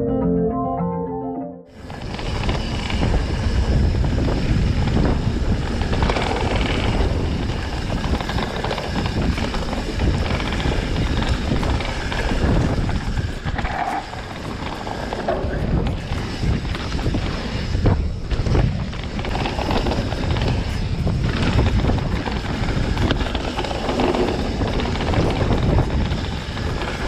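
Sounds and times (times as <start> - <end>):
bike rattles and clicks: 1.7 - 27.0
wind buffeting camera: 1.7 - 27.0
bike tyres rolling over dirt: 1.8 - 27.0.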